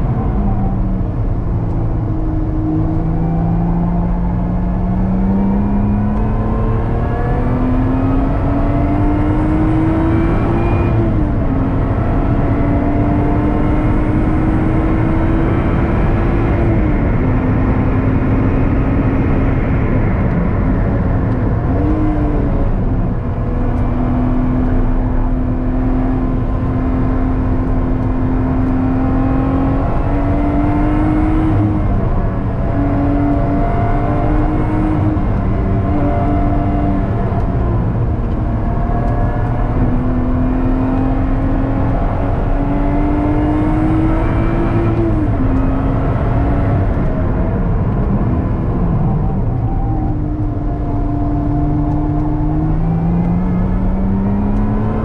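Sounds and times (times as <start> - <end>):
car engine revving in cabin: 0.0 - 55.0.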